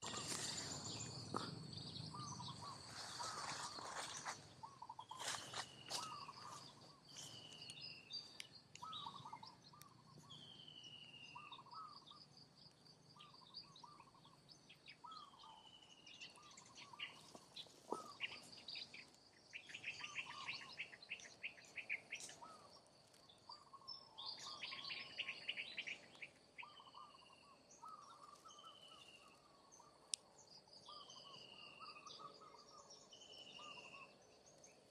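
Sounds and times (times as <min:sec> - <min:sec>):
birds chirping and calling: 0:00.0 - 0:12.3, 0:13.0 - 0:30.0, 0:30.8 - 0:34.4.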